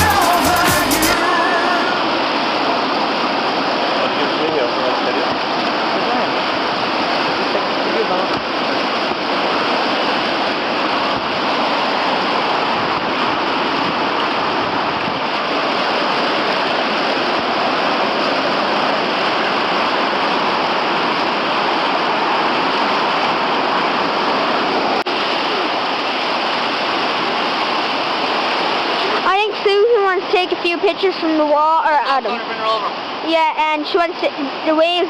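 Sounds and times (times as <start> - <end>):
white water rushing: 0.0 - 35.0.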